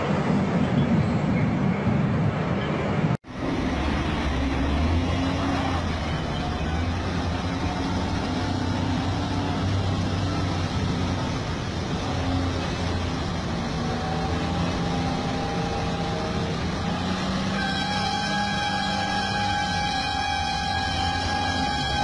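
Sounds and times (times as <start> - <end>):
heavy vehicle engine humming: 0.0 - 22.0
music with sustained tones: 3.8 - 22.0.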